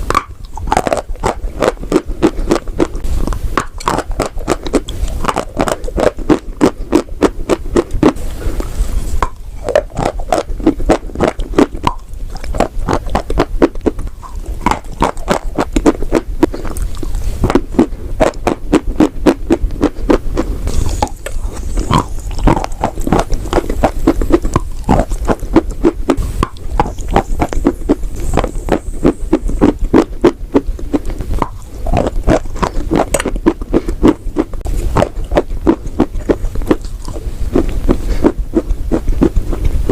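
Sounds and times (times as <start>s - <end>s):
chewing dry crunches: 0.0s - 39.9s.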